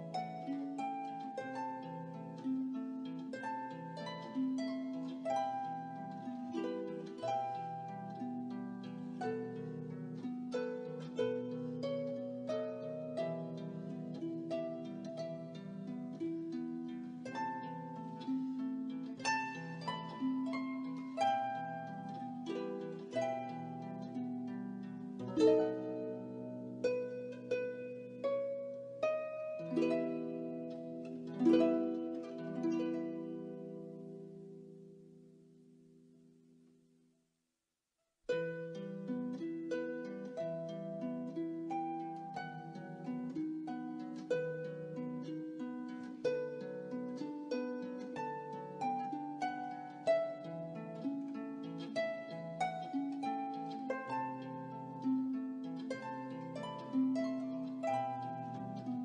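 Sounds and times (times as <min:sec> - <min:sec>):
plucked harp-like melody: 0:00.0 - 0:35.7, 0:38.3 - 0:59.0.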